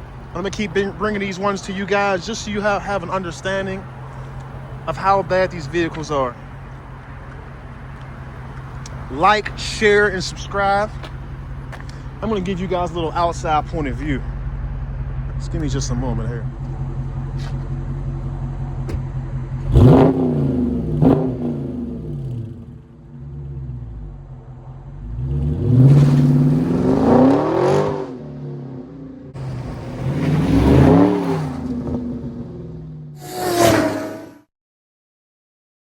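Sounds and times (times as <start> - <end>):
car engine idling and revving: 0.0 - 34.5.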